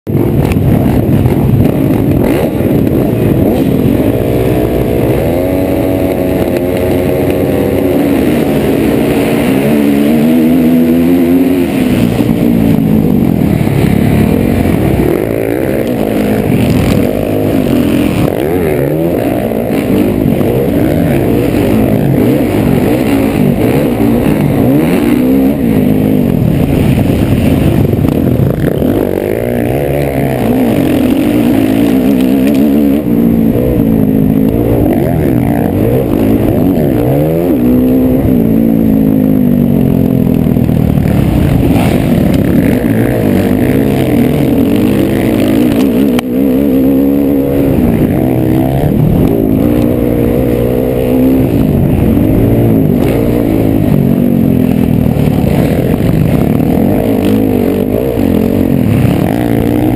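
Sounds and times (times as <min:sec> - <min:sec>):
dirt bike engine revving: 0:00.0 - 0:59.9
other dirt bikes racing: 0:00.0 - 0:59.9.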